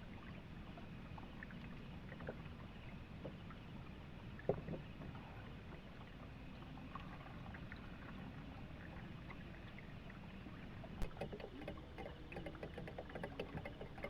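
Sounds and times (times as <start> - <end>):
faint flowing water: 0.0 - 14.0
small drips and ticks: 0.1 - 14.0.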